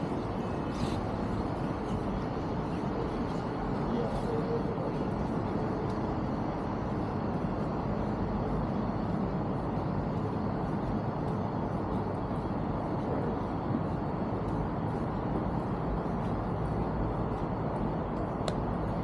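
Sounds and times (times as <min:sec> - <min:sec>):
low rumble of city traffic: 0:00.0 - 0:19.0.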